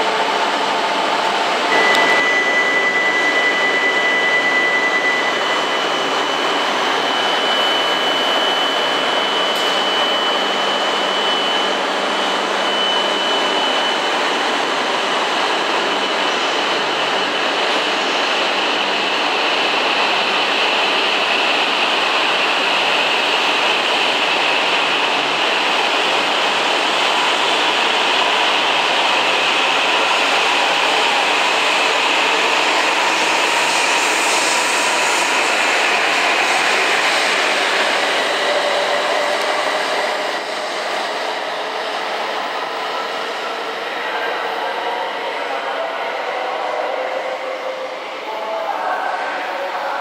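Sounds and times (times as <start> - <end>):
train wheels and motors rumbling: 0.0 - 45.2.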